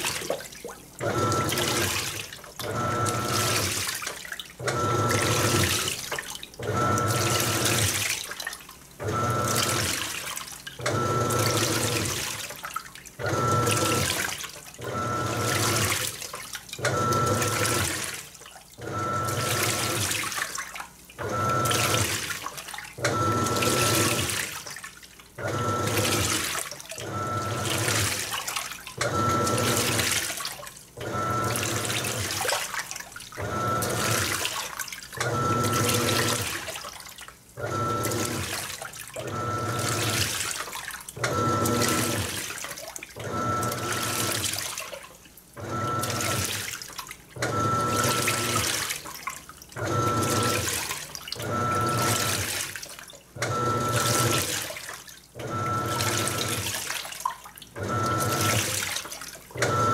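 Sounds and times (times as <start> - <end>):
washing machine motor hum: 0.0 - 59.9
water sloshing: 0.0 - 59.9.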